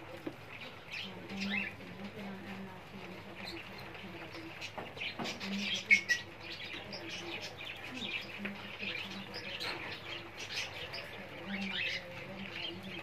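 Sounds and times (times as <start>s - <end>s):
parakeets chirping and chattering: 0.0s - 13.0s.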